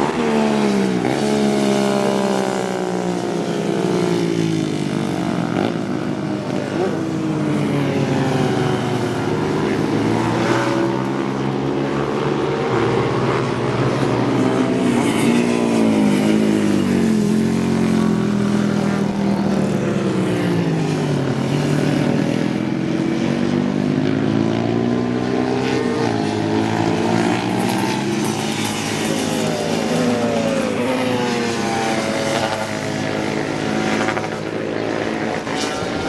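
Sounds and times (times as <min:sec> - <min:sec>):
racing motorcycle engines: 0:00.0 - 0:36.0.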